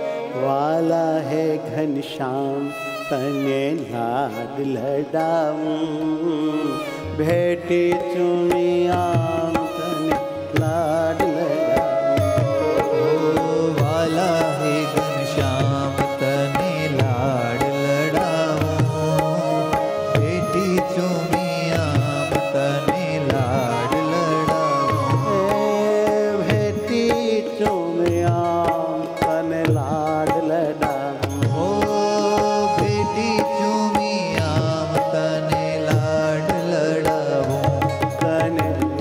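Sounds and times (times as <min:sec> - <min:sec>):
tabla rhythm: 0:00.0 - 0:39.0.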